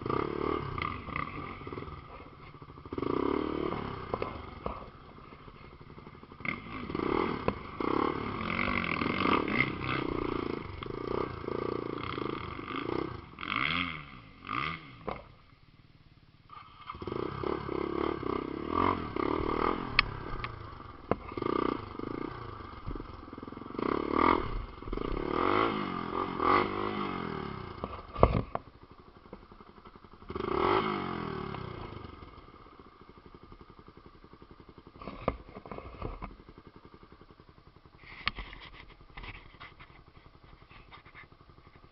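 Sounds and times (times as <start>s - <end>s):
off-road motorcycle engine revving: 0.0s - 41.9s.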